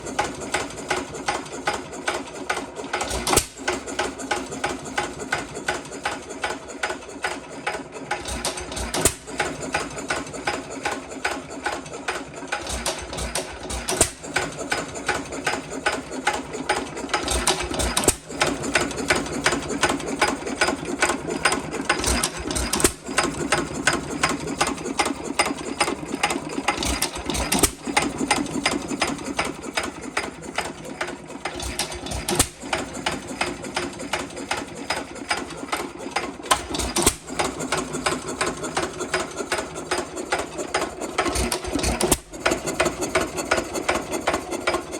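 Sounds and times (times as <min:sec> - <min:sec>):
engine mechanical clatter: 0:00.0 - 0:44.9.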